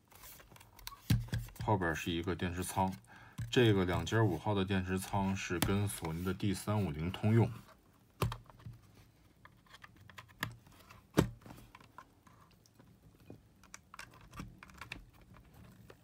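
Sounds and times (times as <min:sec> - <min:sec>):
hands handling plastic case: 0:00.0 - 0:16.0.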